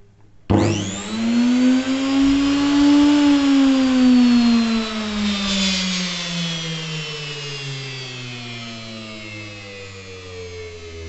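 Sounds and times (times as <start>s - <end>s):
electric motor whining: 0.5s - 11.0s.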